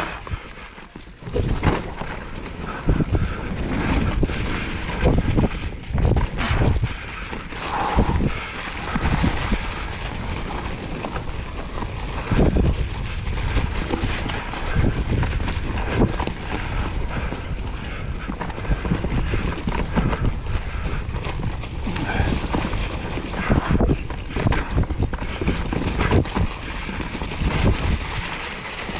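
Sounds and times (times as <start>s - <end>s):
bike tyres rolling on dirt: 0.0s - 28.9s
wind buffeting microphone: 0.0s - 28.9s.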